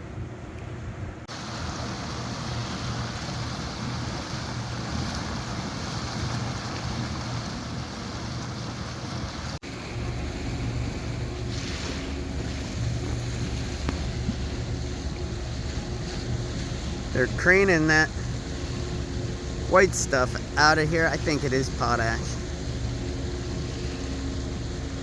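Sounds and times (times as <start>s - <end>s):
boat motor rumbling: 0.0s - 25.0s
low engine hum: 0.0s - 25.0s
wind: 0.0s - 25.0s
rushing water: 1.2s - 25.0s.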